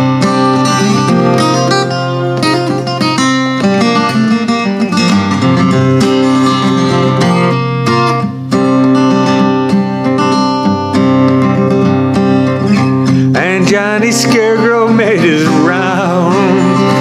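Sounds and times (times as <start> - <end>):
acoustic guitar strummed and picked: 0.0 - 17.0.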